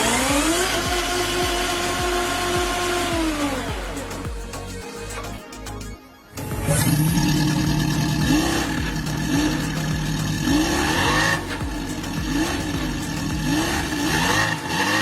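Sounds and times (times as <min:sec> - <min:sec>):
remote-control car engine revving: 0:00.0 - 0:05.3, 0:06.4 - 0:15.0.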